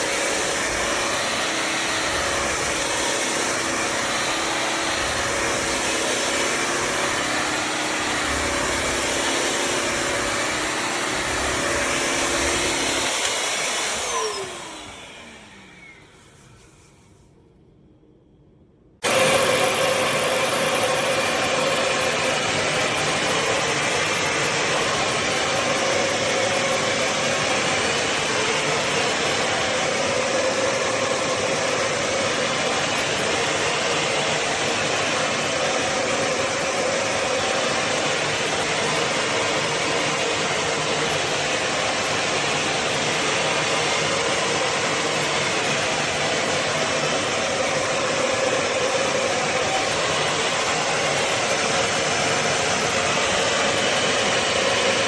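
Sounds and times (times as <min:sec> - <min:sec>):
vacuum cleaner running: 0:00.0 - 0:17.2, 0:19.0 - 0:55.0.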